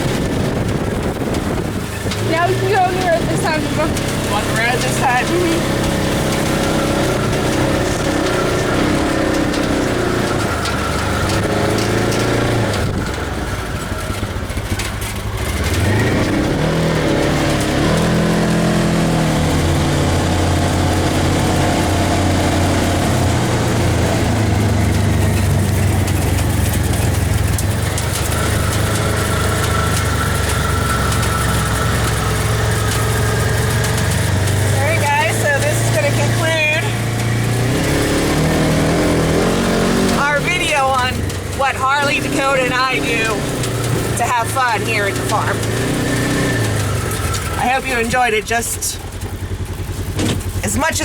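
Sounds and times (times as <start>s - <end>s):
vehicle engine revving: 0.0s - 51.0s.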